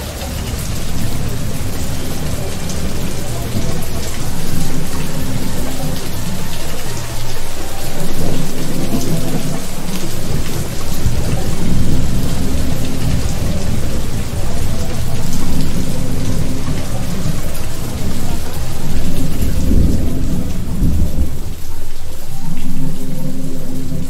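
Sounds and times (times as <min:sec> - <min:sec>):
heavy rain falling: 0:00.0 - 0:24.0
low rumble of thunder: 0:00.0 - 0:24.0.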